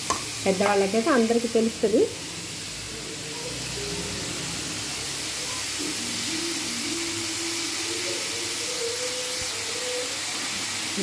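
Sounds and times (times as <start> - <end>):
beetroot sizzling in pan: 0.0 - 11.0.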